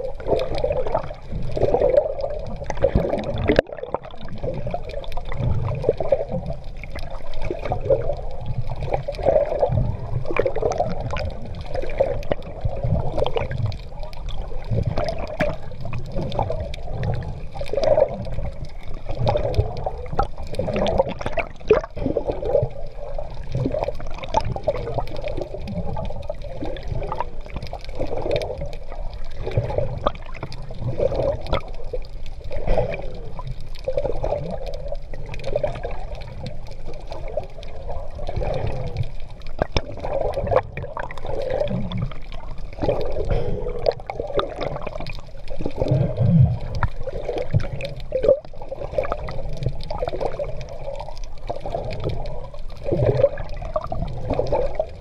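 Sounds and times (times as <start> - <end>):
sea water splashing and gurgling: 0.0 - 55.0.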